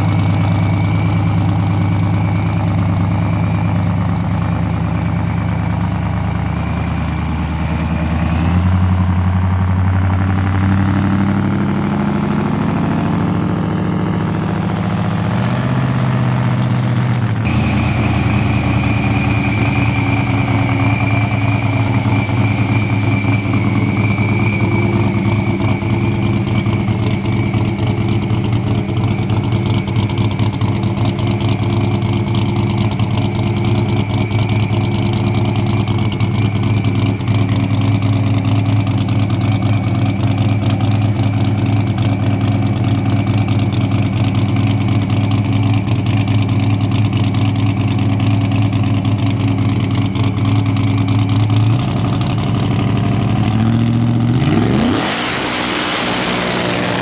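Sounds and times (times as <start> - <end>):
drag car engine revving: 0.0 - 57.0.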